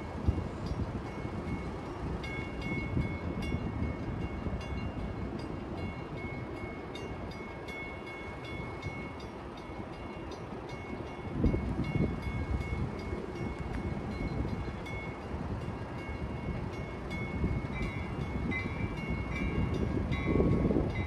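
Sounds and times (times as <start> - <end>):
crossing bell ringing: 0.0 - 21.0
train rumbling in distance: 0.0 - 21.0.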